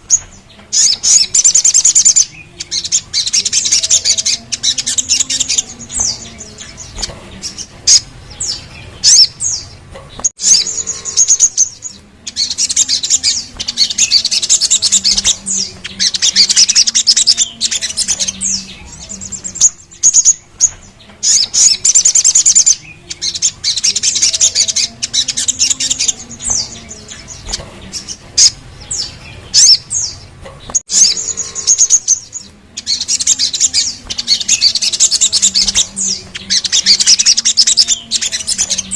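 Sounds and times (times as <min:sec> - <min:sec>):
high rolling bird trills: 0:00.0 - 0:38.9.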